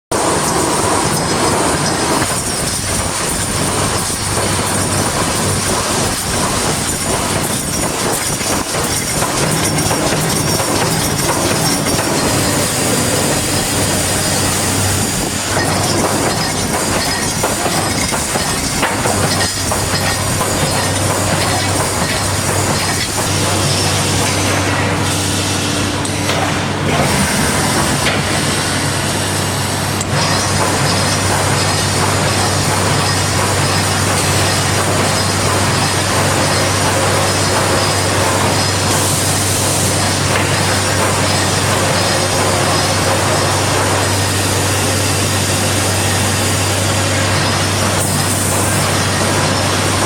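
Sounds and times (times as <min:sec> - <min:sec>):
welding machine clattering: 0:00.1 - 0:50.0.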